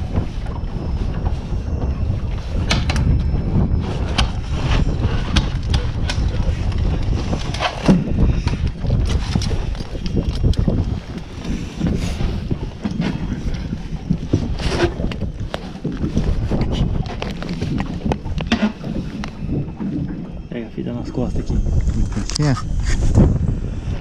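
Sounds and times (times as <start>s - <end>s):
knocks and clatter on boat: 0.0s - 24.0s
wind buffeting microphone: 0.0s - 24.0s.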